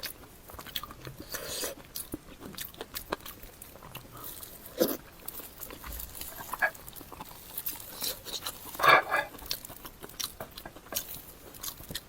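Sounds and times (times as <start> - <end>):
mouth smacking and chewing: 0.0 - 12.0.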